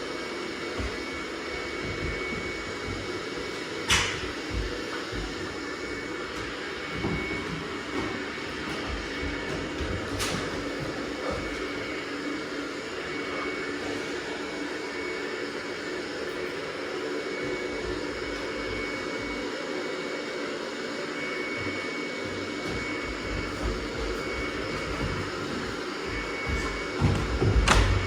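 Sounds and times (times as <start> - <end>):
robot vacuum cleaner whirring: 0.0 - 28.0.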